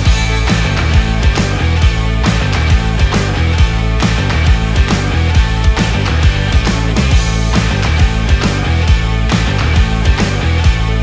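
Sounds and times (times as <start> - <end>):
rock music with drums and bass: 0.0 - 11.0.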